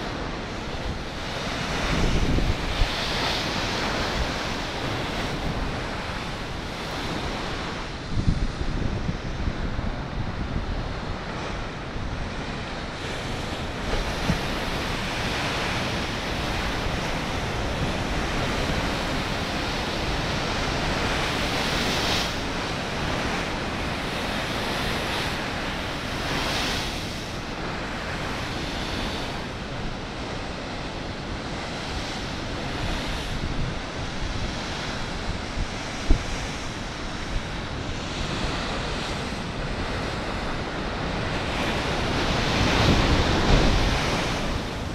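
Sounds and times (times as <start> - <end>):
waves breaking against sea wall: 0.0 - 44.9
wind noise on microphone: 0.0 - 44.9.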